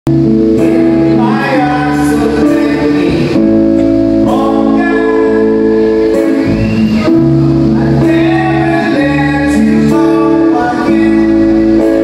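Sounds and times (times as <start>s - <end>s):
bass guitar: 0.0s - 12.0s
electric guitar: 0.1s - 12.0s
man singing into a microphone: 0.8s - 3.6s, 4.2s - 7.1s, 7.7s - 12.0s.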